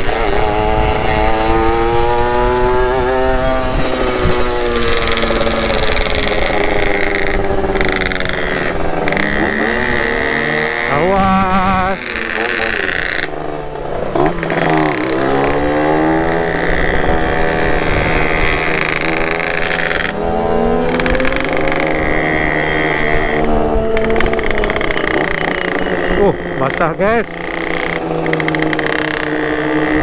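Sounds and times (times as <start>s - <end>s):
wind over microphone: 0.0s - 27.2s
two-stroke motorcycle engine accelerating: 0.0s - 30.0s.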